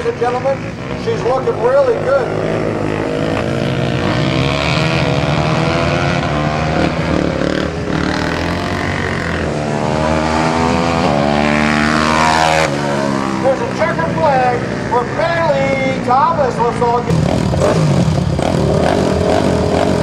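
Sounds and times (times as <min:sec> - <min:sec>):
quad engines revving hard: 0:00.0 - 0:20.0.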